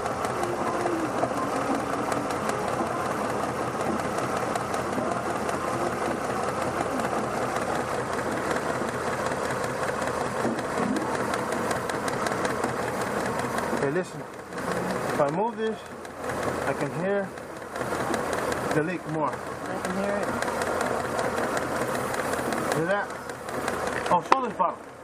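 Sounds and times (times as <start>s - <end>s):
gasoline engine idling: 0.0s - 25.0s
rapid even ticking: 0.0s - 25.0s.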